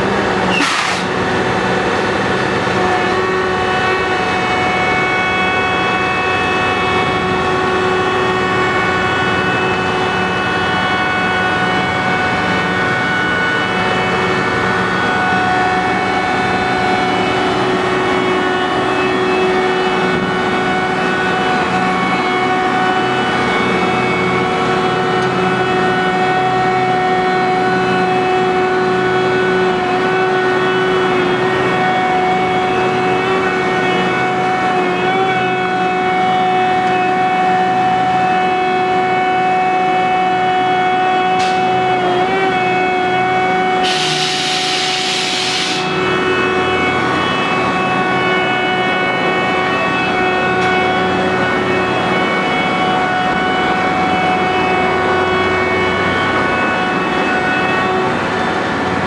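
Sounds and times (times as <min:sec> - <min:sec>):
heavy diesel machinery running: 0:00.0 - 0:59.0
steady whining tones: 0:00.0 - 0:59.0.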